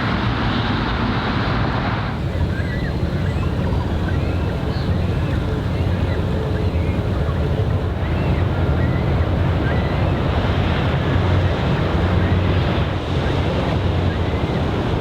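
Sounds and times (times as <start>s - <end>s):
wind on microphone: 0.0s - 15.0s
low engine rumble: 2.1s - 15.0s.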